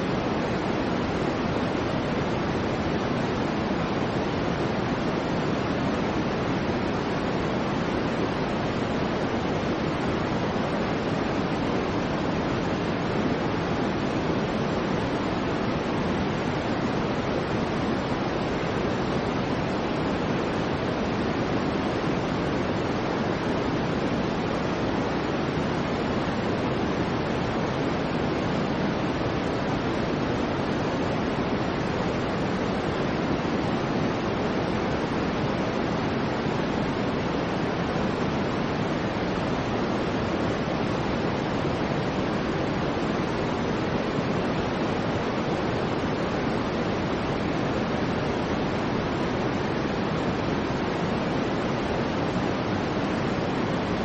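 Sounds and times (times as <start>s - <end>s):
soft white noise hiss: 0.0s - 54.0s.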